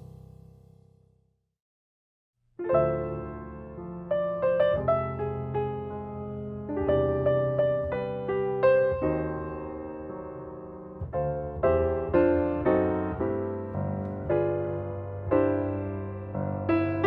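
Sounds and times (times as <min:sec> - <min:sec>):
gentle piano melody: 0:02.6 - 0:17.0.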